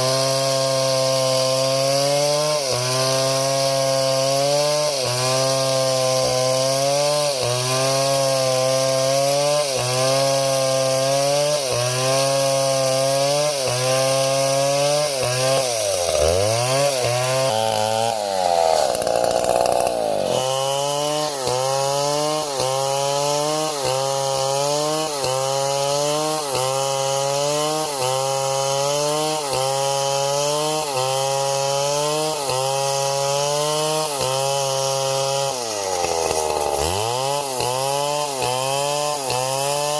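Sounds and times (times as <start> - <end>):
engine-driven saw cutting wood: 0.0 - 39.9.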